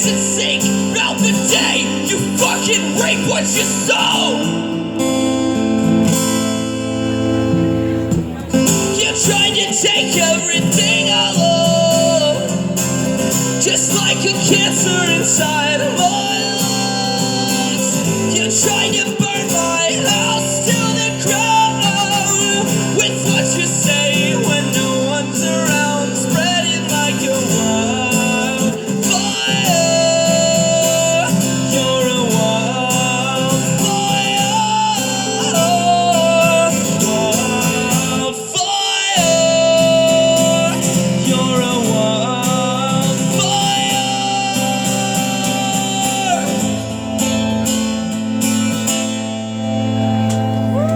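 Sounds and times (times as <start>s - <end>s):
rock guitar playing: 0.0s - 50.9s.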